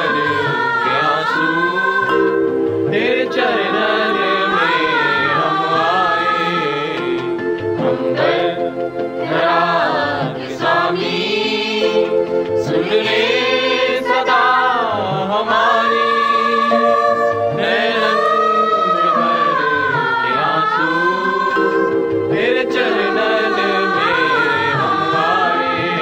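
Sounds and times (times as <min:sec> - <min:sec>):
choir singing devotional song: 0:00.0 - 0:26.0
musical backing: 0:00.0 - 0:26.0.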